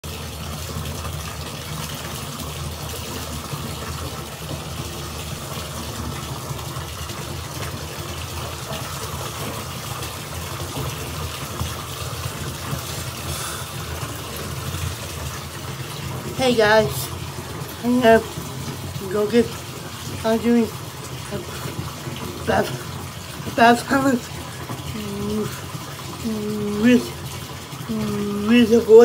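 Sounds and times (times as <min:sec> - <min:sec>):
water pouring into bathtub: 0:00.0 - 0:29.0.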